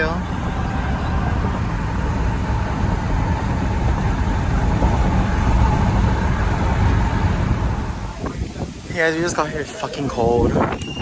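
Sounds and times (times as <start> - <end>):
car road and engine rumble: 0.0 - 10.7.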